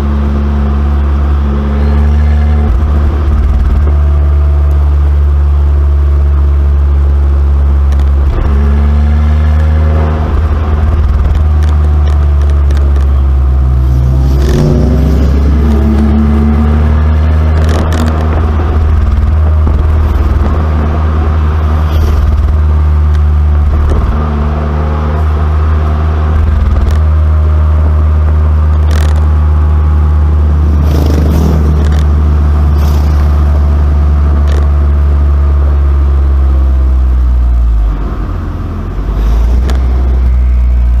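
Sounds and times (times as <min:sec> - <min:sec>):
car engine droning and accelerating: 0:00.0 - 0:41.0
sharp exhaust cracks: 0:00.8 - 0:41.0.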